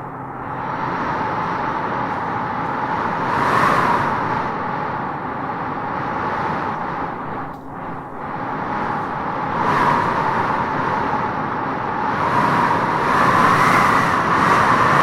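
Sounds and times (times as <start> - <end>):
wind blowing in gusts: 0.0 - 15.0.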